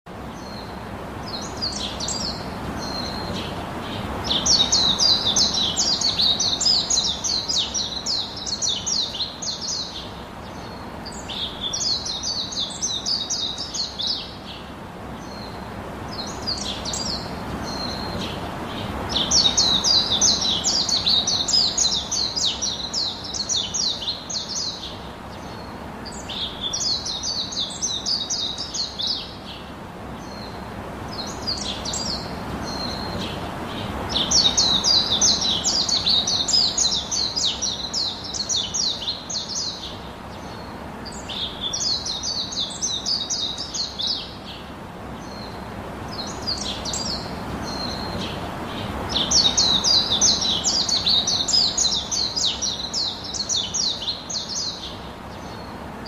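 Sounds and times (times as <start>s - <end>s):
small birds twittering: 0.1s - 56.0s.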